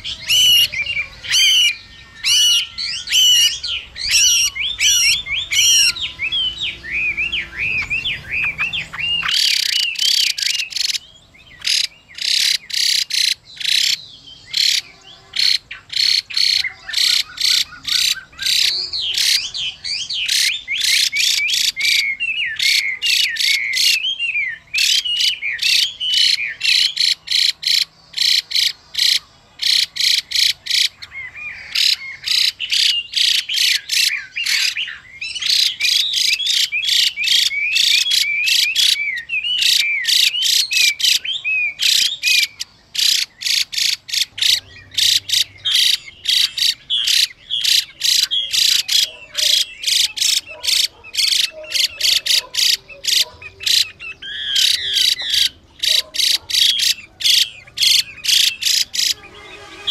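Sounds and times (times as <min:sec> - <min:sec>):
bird harsh rasping calls: 0:00.0 - 0:59.9
bird whistled song: 0:00.0 - 0:59.9.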